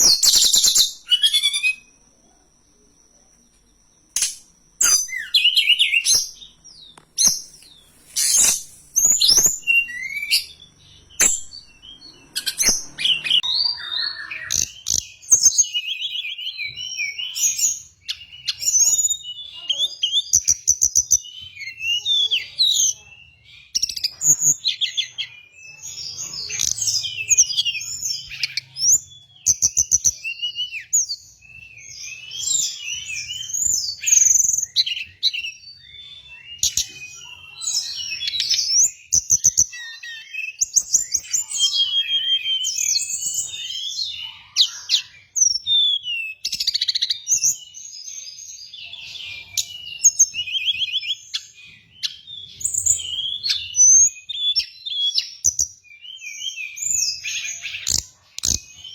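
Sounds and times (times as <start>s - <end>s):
songbird chirps and trills: 0.0s - 58.9s.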